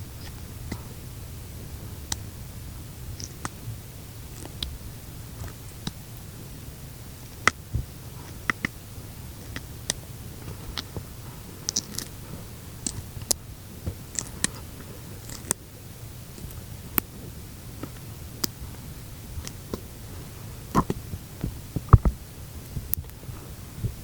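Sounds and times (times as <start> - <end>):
low hum: 0.0 - 24.0
snails feeding tiny clicks: 0.1 - 23.2.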